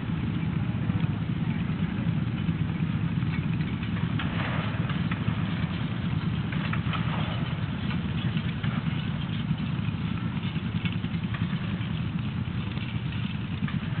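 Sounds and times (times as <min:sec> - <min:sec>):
engine running low rumble: 0:00.0 - 0:14.0.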